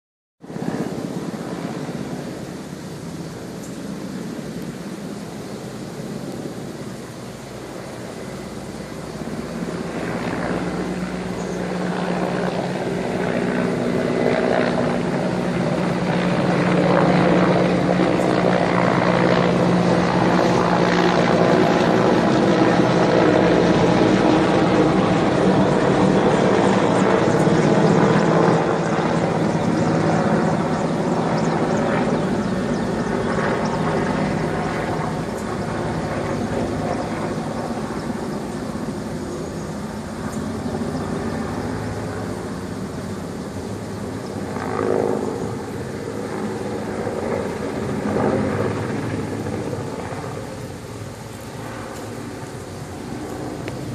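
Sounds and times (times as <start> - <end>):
helicopter rotor drone: 0.4 - 53.9.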